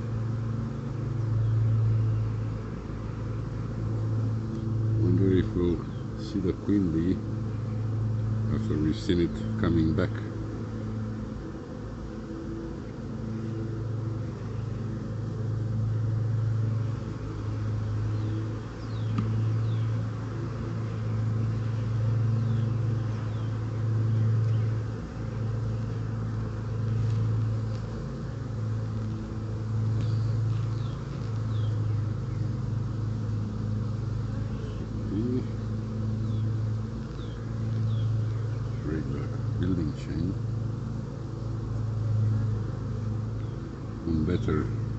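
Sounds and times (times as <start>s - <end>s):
honeybees humming: 0.0s - 44.9s.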